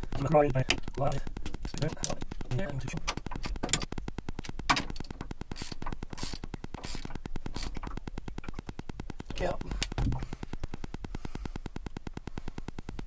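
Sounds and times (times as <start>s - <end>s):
fast even ticking: 0.0s - 13.0s.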